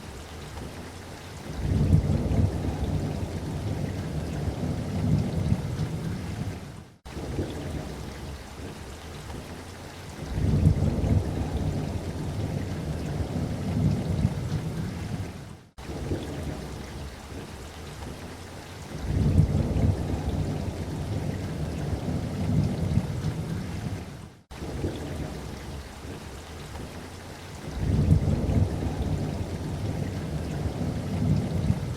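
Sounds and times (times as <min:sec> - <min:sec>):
steady rain: 0:00.0 - 0:31.9
rolling thunder: 0:01.5 - 0:08.4, 0:10.2 - 0:17.5, 0:18.9 - 0:26.3, 0:27.7 - 0:31.9.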